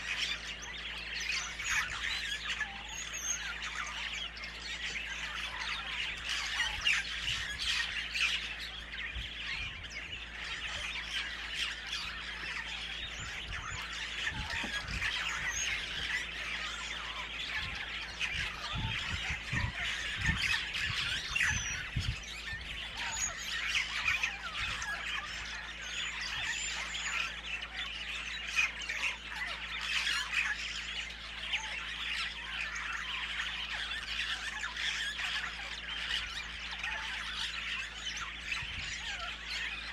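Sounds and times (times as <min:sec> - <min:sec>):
many birds calling and chirping: 0:00.0 - 0:39.9.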